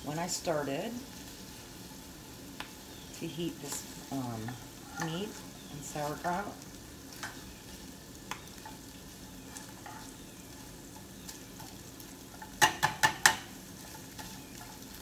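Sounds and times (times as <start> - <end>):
meat frying in a pan: 0.0 - 15.0.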